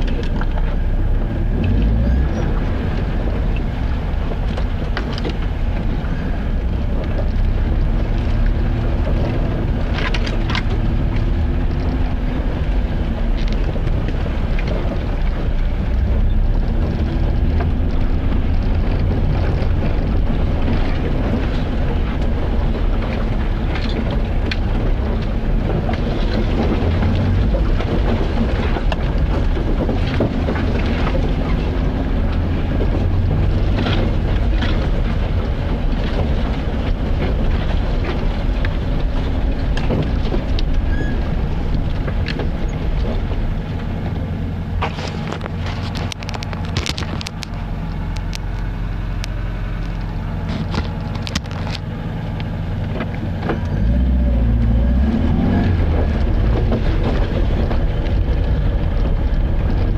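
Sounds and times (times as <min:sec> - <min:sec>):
road noise: 0:00.0 - 0:59.9
vehicle engine rumble: 0:00.0 - 0:59.9.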